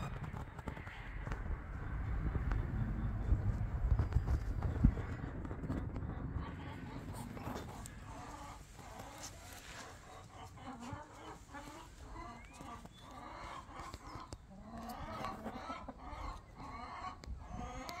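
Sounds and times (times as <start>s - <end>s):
chickens clucking: 2.4s - 18.0s.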